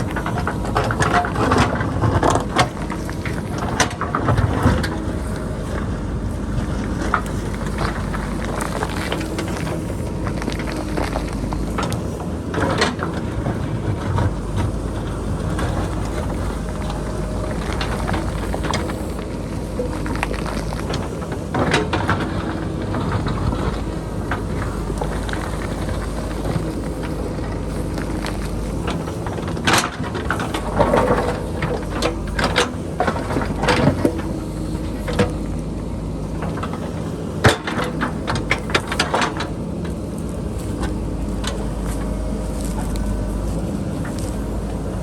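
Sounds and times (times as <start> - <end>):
diesel engine running under load: 0.0 - 45.0.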